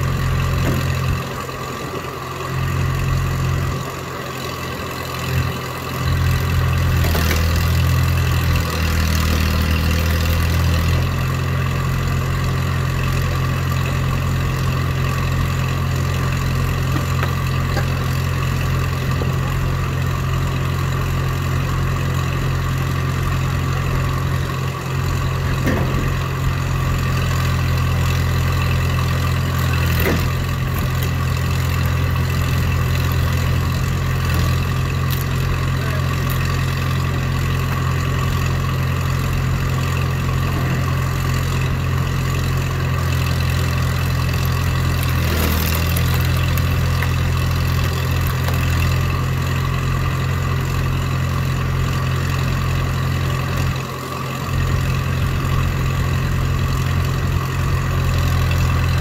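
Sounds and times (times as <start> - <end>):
log splitter engine running: 0.0 - 59.0.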